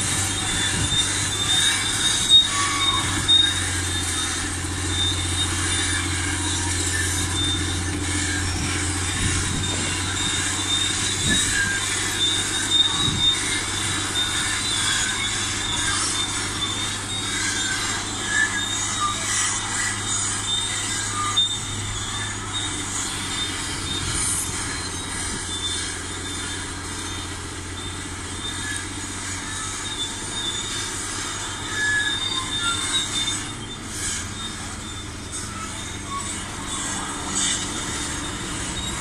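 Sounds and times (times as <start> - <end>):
low diesel drone: 0.0 - 39.0
metallic track squeaks: 0.0 - 39.0.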